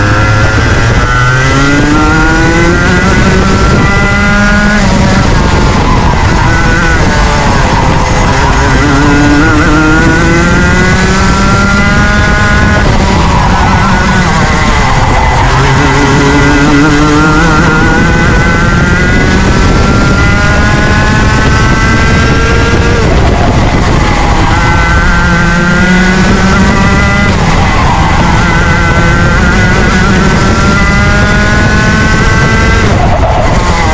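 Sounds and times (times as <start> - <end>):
constant rushing noise: 0.0 - 33.9
kart engine revving: 0.0 - 33.9.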